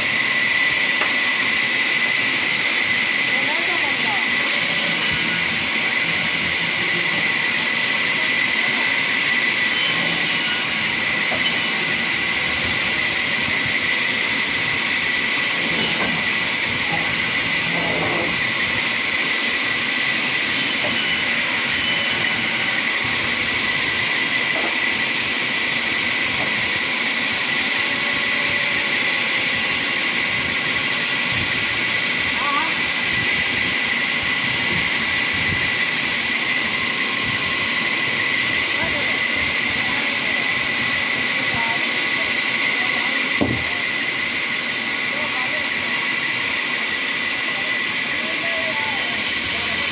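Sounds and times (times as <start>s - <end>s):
sawmill saw whining: 0.0s - 49.9s.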